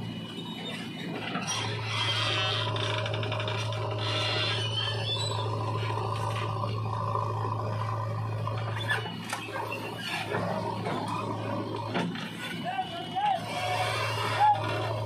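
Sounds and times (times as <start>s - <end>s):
diesel machinery humming: 0.0s - 15.0s.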